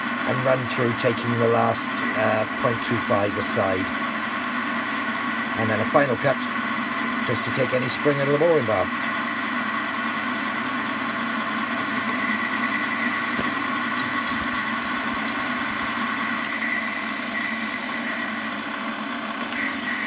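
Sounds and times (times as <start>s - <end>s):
lathe cutting whine: 0.0s - 20.0s
metal lathe running: 0.0s - 20.0s.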